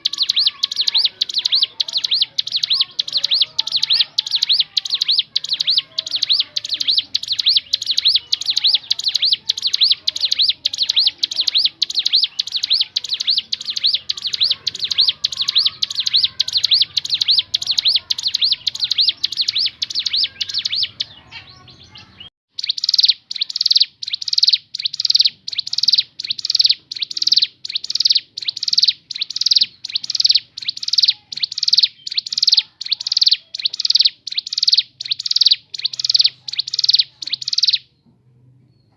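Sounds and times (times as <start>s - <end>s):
bird singing high chirps: 0.0s - 38.0s.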